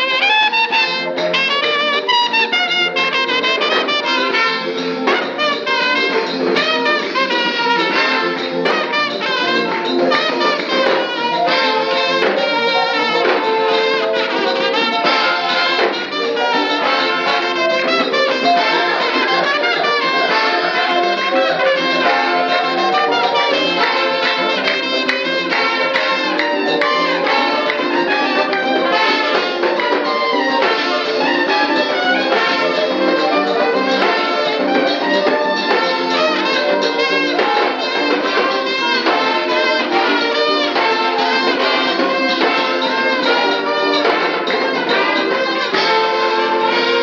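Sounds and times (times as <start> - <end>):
brass group playing: 0.0 - 47.0.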